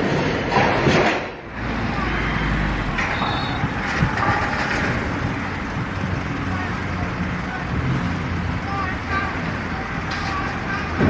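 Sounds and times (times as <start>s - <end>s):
heavy vehicle engine rumbling: 0.0s - 11.0s
loud wind-like noise: 0.0s - 11.0s.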